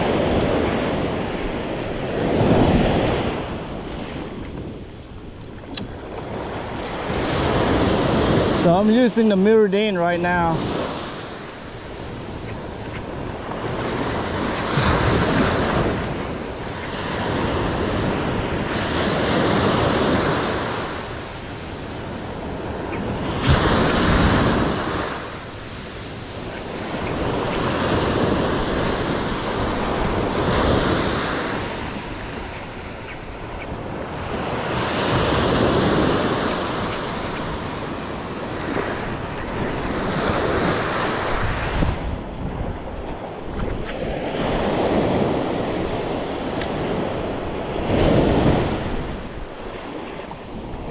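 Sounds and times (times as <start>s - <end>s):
waves breaking on sand: 0.0s - 50.9s
wind buffeting microphone: 0.0s - 50.9s.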